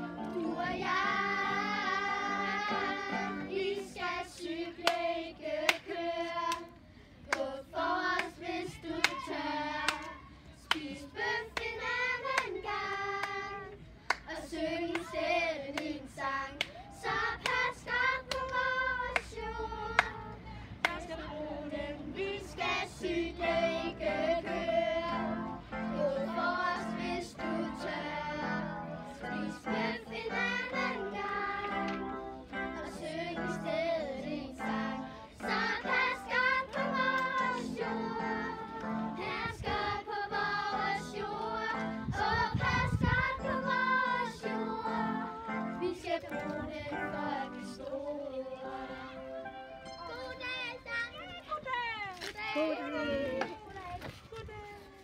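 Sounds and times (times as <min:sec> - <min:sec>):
girls singing together: 0:00.0 - 0:49.4.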